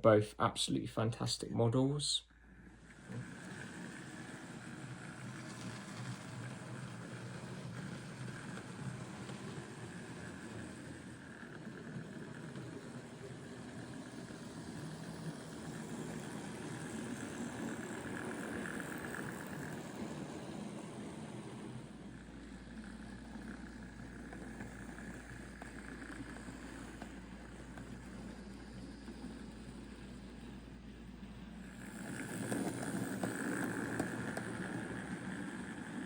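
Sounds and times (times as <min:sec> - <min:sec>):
model train motor whirring: 0:02.4 - 0:36.0.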